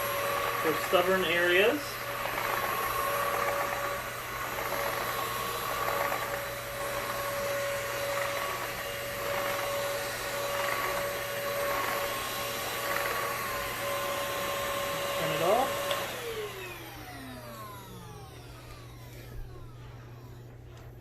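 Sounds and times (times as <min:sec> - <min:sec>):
stick vacuum running: 0:00.0 - 0:21.0.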